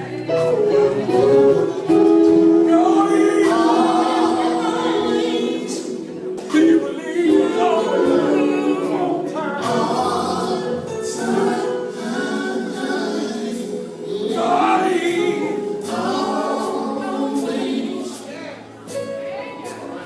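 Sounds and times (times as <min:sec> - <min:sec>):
gospel vocal group singing: 0:00.0 - 0:18.8.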